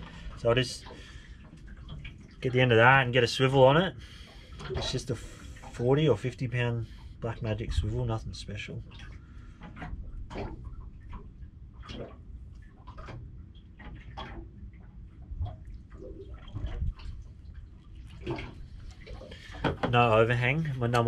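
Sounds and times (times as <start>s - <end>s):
waves lapping against boat: 0.0s - 21.0s.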